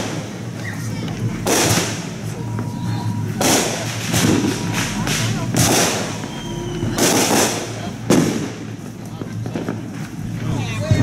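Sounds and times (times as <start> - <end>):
fireworks bangs with crackle: 0.0 - 11.0.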